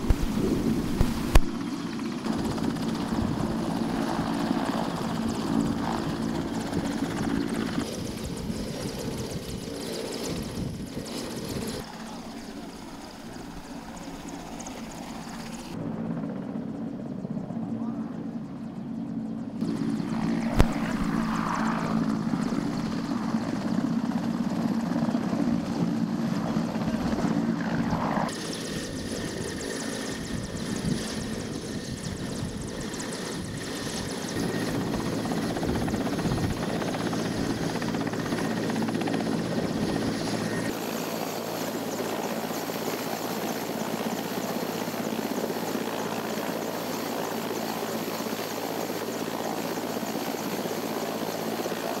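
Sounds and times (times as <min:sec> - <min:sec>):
helicopter turbine whine and rotor: 0:00.0 - 0:52.0.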